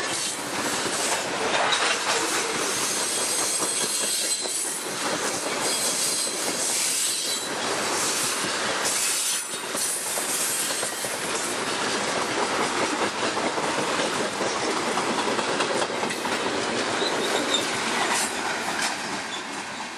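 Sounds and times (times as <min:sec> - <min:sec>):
train wheels rumbling and clacking: 0:00.0 - 0:19.9.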